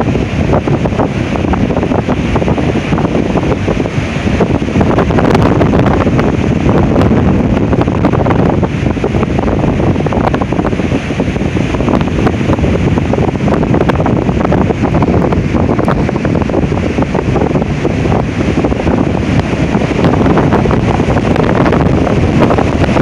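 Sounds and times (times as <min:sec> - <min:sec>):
wind gusts on microphone: 0:00.0 - 0:23.0.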